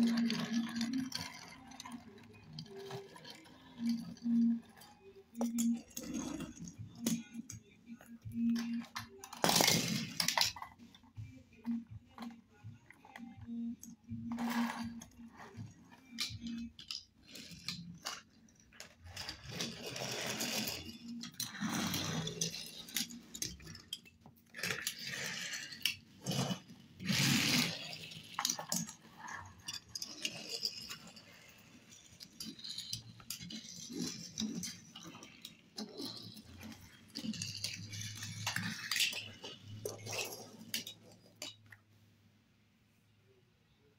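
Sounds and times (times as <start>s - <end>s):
toy cars clinking together: 0.0s - 11.0s, 13.0s - 41.8s
toy car wheels rolling on wood: 0.0s - 41.9s.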